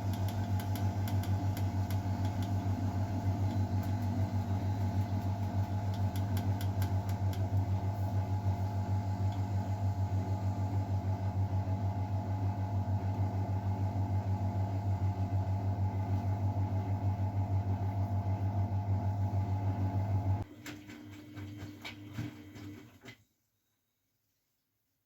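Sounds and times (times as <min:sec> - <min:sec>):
washing machine running: 0:00.0 - 0:23.2.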